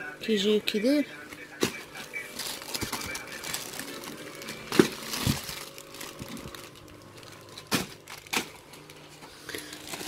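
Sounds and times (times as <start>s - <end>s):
plastic bags crinkling: 1.6s - 10.0s.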